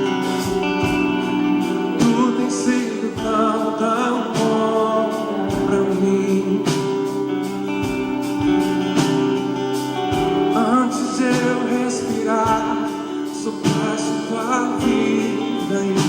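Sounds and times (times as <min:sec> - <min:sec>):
gospel band with guitar: 0:00.0 - 0:16.0
person singing with vibrato: 0:00.0 - 0:16.0.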